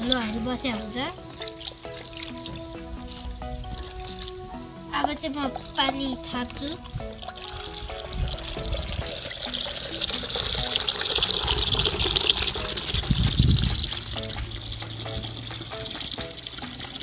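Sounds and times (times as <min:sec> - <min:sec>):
tap water pouring into metal pot: 0:00.0 - 0:17.0.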